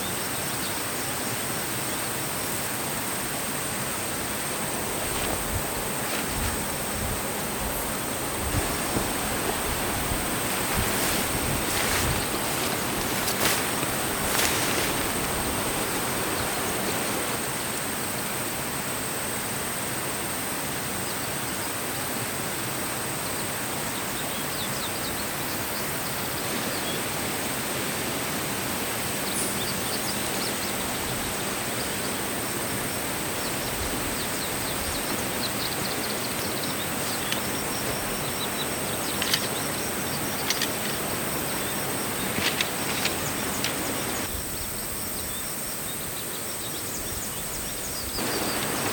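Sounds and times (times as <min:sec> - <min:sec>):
forest stream rushing: 0:00.0 - 0:44.4, 0:48.2 - 0:48.9.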